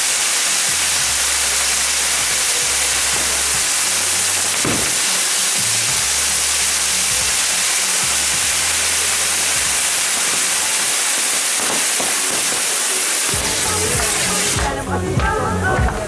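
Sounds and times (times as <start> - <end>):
low music: 0.0 - 10.9, 13.2 - 16.0
hiss of spraying sparks: 0.0 - 15.6.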